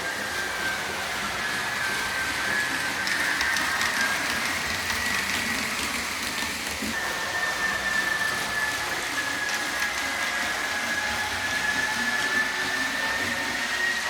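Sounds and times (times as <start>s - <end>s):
model train running hiss: 0.0s - 14.0s.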